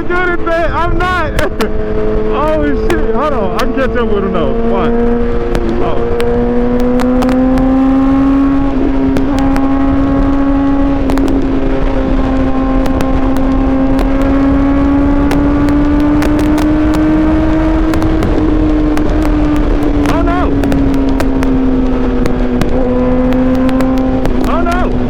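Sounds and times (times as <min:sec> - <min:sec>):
motorcycle engine at high revs: 0:00.0 - 0:25.0
wind rush on microphone: 0:00.0 - 0:25.0.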